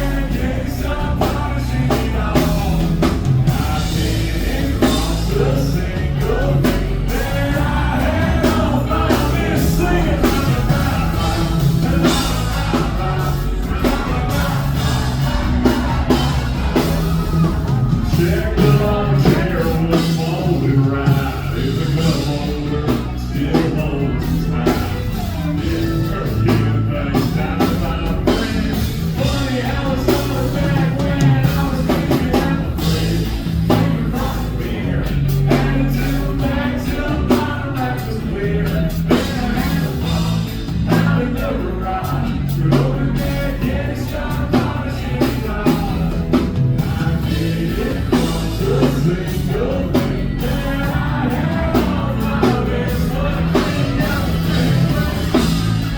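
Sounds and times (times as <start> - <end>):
rock song with singing: 0.0 - 55.9.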